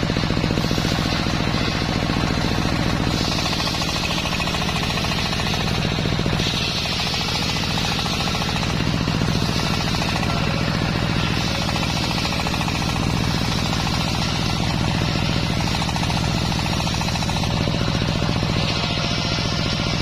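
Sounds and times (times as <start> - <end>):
engine pulsing: 0.0 - 20.0
saw whine: 0.0 - 20.0.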